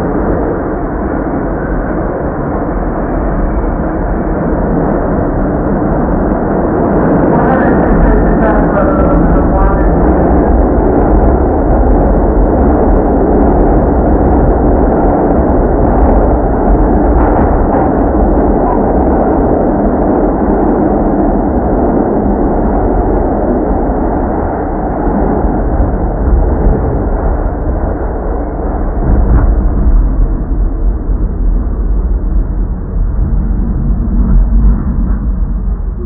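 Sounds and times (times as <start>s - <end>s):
subway train rumbling: 0.0s - 36.0s.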